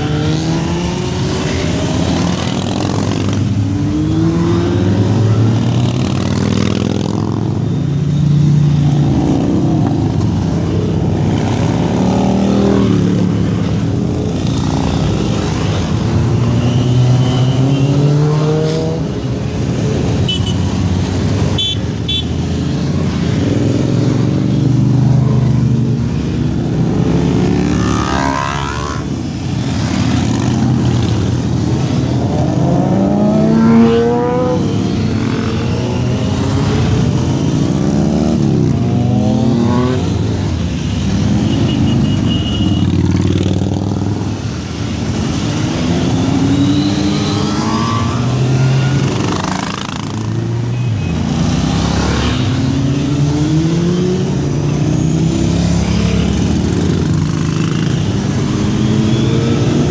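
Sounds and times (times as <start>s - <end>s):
motorcycles riding past: 0.0s - 59.9s.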